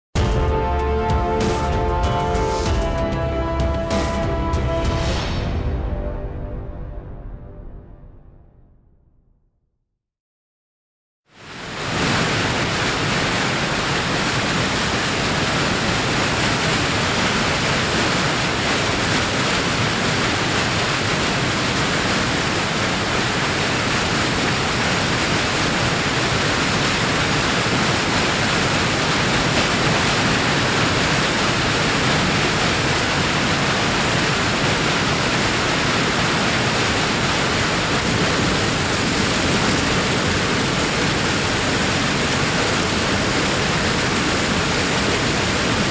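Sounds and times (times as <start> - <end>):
waterfall rushing: 0.2 - 5.1, 11.4 - 45.9.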